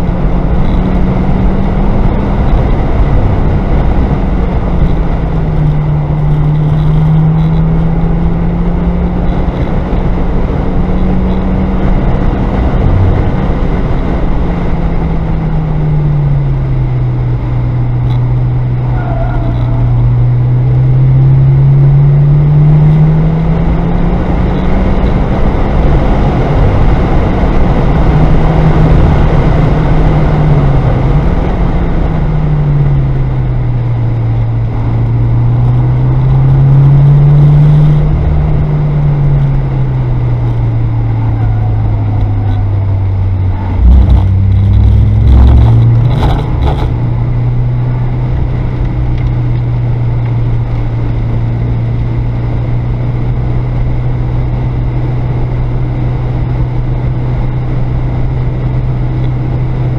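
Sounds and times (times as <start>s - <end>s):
car engine drone: 0.0s - 59.9s
road and wind noise: 0.0s - 59.9s.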